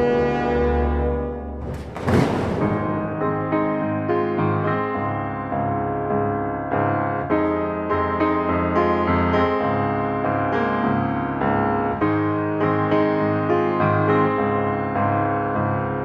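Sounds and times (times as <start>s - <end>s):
gentle piano melody: 1.6s - 16.0s.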